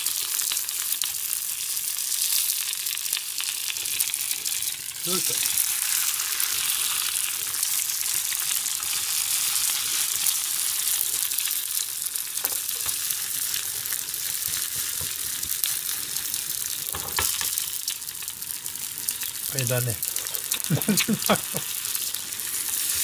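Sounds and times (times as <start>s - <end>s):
eggs sizzling in frying pan: 0.0s - 23.0s.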